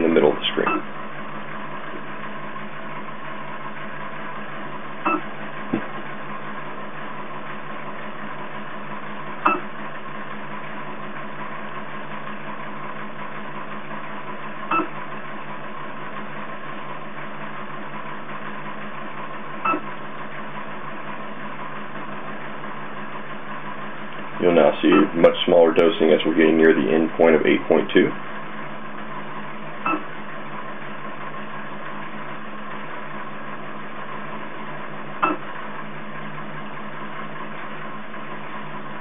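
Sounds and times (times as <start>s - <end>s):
stirrer motor humming: 0.0s - 39.0s.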